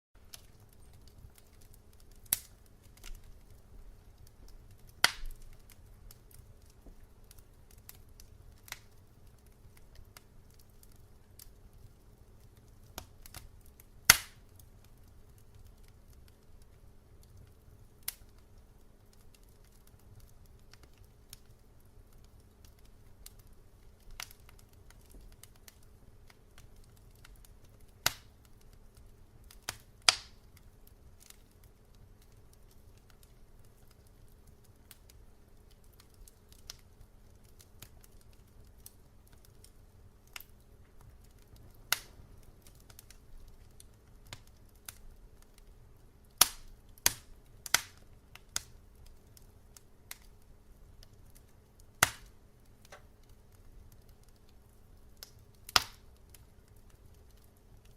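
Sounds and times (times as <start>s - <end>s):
wood fire crackling: 0.2s - 57.9s.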